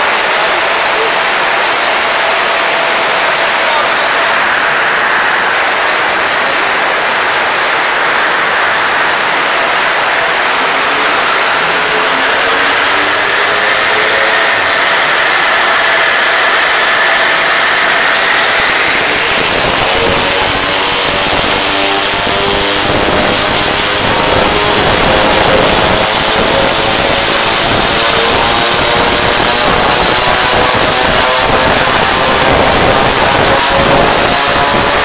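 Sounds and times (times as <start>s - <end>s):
loud hiss: 0.0s - 35.0s
rotary engine revving: 0.0s - 35.0s.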